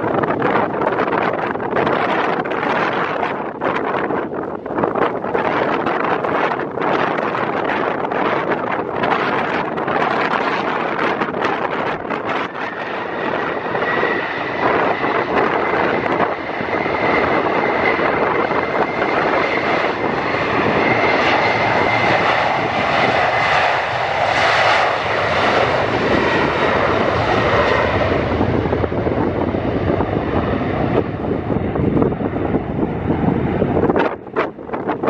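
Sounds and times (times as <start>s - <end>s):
jet engines passing with whine: 0.0s - 35.0s.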